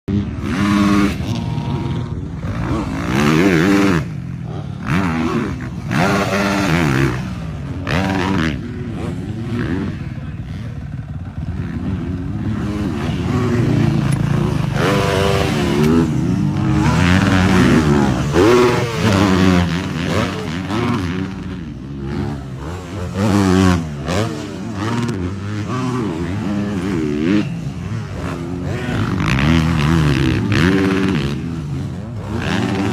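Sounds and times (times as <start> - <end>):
motocross bike engine revving: 0.1 - 32.9.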